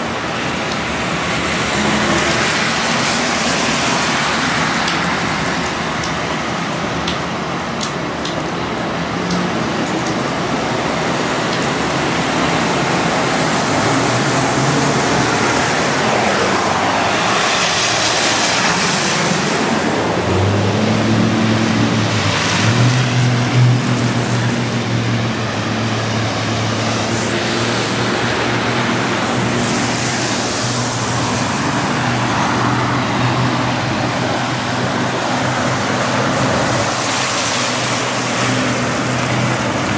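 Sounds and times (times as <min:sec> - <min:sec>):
rushing water: 0:00.0 - 0:39.9
vehicle engine hum: 0:00.0 - 0:39.9
tyres throwing up water spray: 0:00.1 - 0:39.9.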